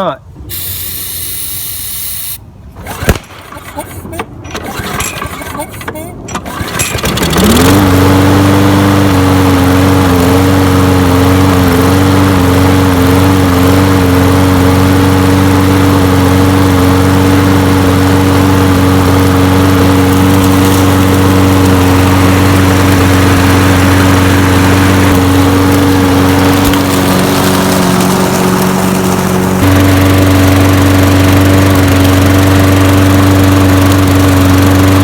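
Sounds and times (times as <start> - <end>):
lawn mower engine running: 0.4 - 35.0.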